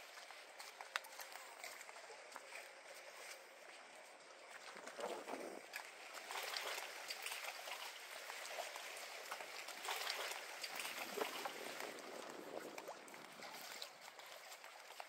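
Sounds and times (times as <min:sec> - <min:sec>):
water lapping around dock pilings: 0:00.0 - 0:15.0.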